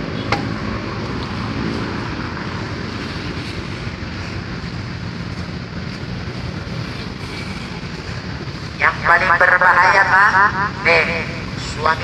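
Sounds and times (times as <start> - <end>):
engine rumble: 0.0 - 12.0
traffic hiss: 0.0 - 12.0.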